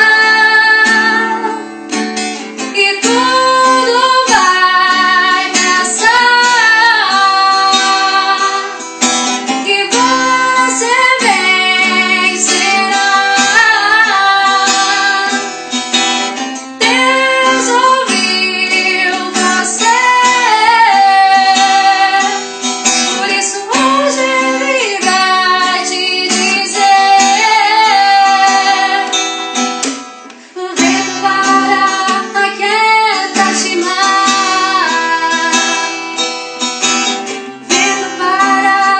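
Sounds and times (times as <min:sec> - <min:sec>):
woman singing a hymn: 0:00.0 - 0:01.6, 0:02.7 - 0:08.8, 0:09.6 - 0:15.5, 0:16.8 - 0:22.4, 0:23.1 - 0:29.2, 0:30.5 - 0:36.1, 0:37.6 - 0:38.9
strummed acoustic guitar: 0:00.0 - 0:38.9.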